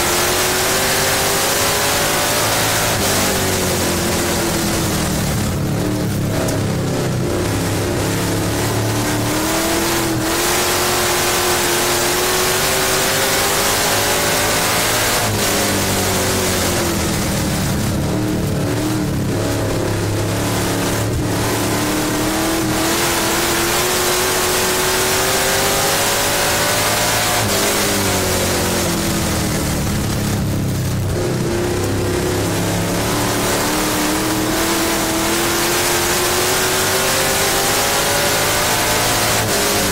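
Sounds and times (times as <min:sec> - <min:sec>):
race car engine: 0:00.0 - 0:39.9
steady rush of noise: 0:00.0 - 0:39.9.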